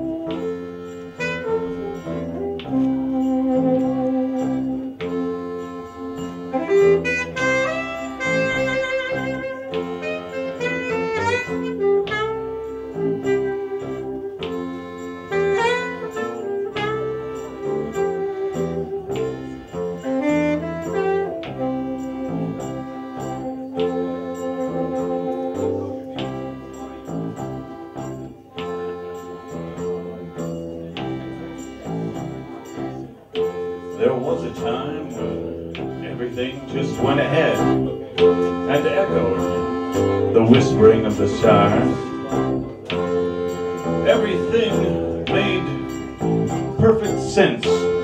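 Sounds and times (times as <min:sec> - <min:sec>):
accordion long reedy notes: 0:00.0 - 0:48.0
bass line: 0:00.0 - 0:48.0
saxophone: 0:00.0 - 0:48.0.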